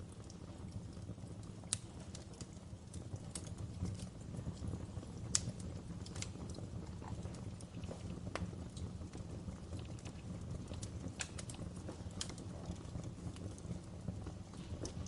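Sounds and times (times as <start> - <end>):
fire crackling and popping: 0.0 - 15.0
wood fire rumbling: 0.0 - 15.0.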